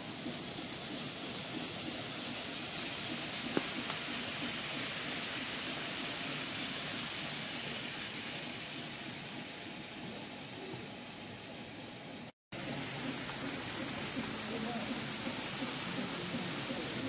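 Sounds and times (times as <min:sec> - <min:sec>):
model train wheels and motor hissing: 0:00.0 - 0:17.0.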